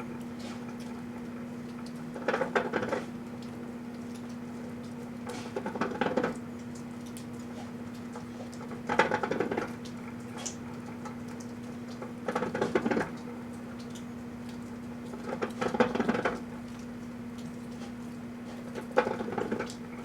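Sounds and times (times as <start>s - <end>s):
microwave oven humming: 0.0s - 20.0s.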